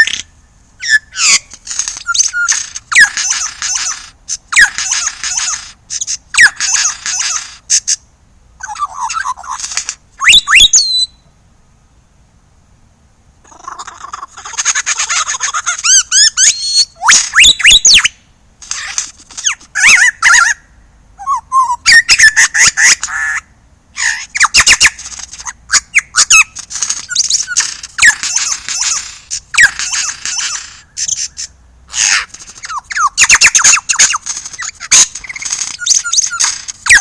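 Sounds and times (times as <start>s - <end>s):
lyrebird singing: 0.0s - 11.3s, 13.4s - 37.0s.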